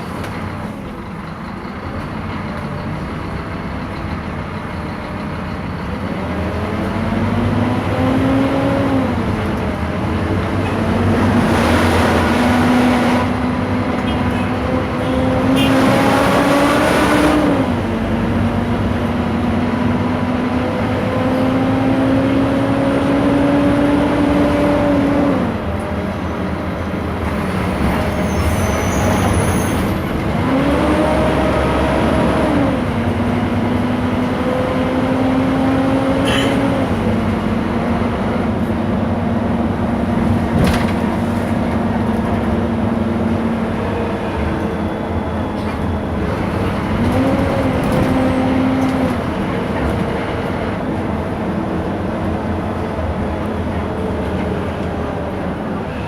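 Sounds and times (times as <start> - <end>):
bus drivetrain whine: 0.0 - 56.0
bus engine and road noise: 0.0 - 56.0.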